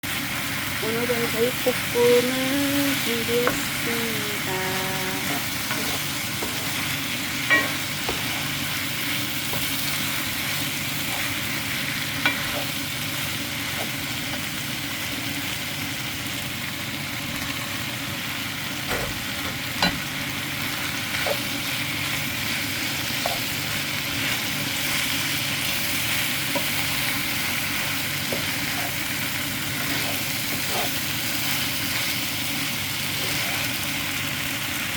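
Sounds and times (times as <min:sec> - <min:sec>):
meat sizzling in a pan: 0:00.0 - 0:34.9.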